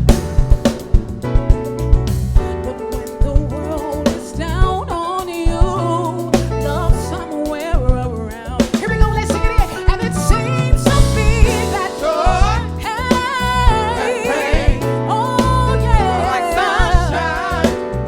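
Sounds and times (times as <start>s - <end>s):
soul band playing: 0.0s - 18.0s.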